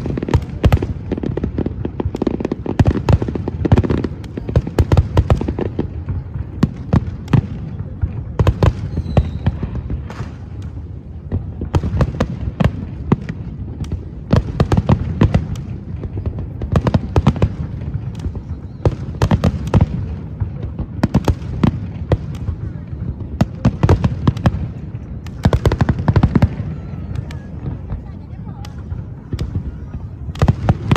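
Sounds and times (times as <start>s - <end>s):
fireworks cracks and bangs: 0.0s - 30.9s.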